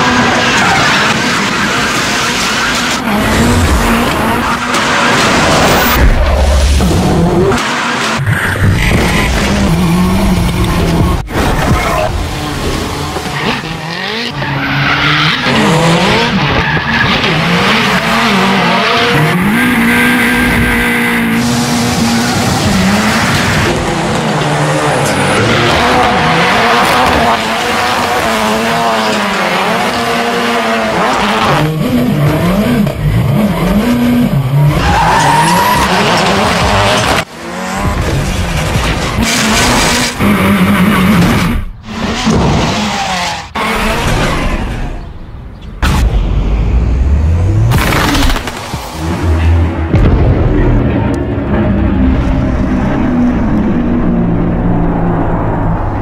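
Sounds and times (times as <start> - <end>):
car engine revving: 0.0 - 45.2, 45.8 - 56.0.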